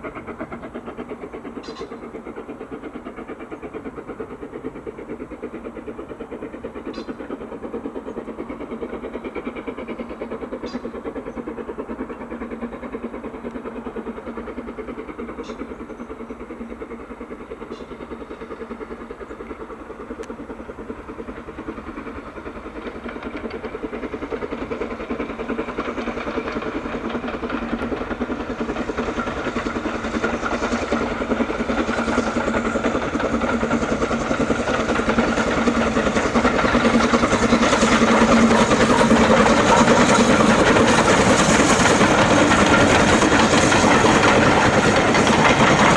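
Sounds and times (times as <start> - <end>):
steam locomotive exhaust beats: 0.0 - 45.9.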